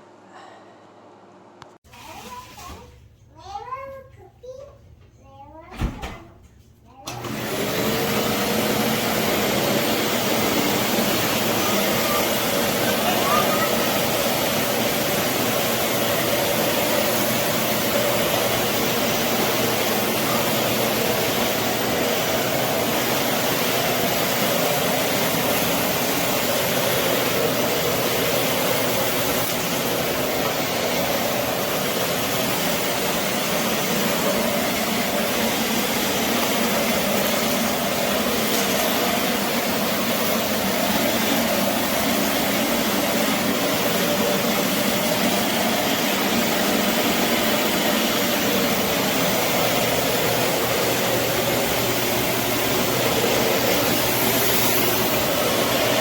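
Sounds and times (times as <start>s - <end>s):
vacuum cleaner running: 7.0s - 56.0s.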